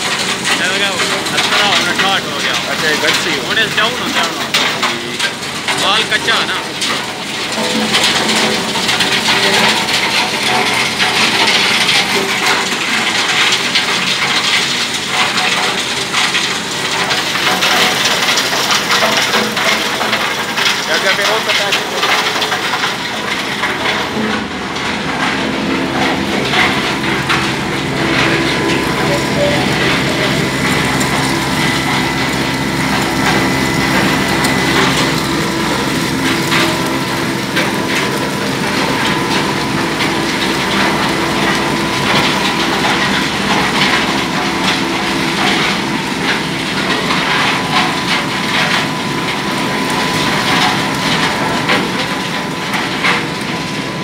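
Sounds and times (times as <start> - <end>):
machinery rattling and knocking: 0.0 - 54.0
mill machinery humming: 0.0 - 54.0.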